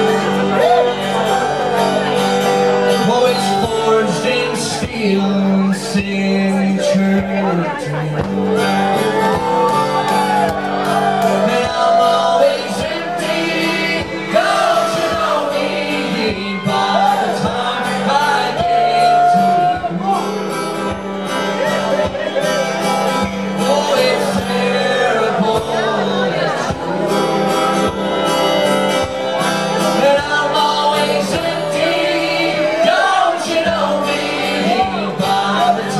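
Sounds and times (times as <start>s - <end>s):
fiddle melody: 0.0s - 35.9s
strummed acoustic guitar: 0.0s - 35.9s.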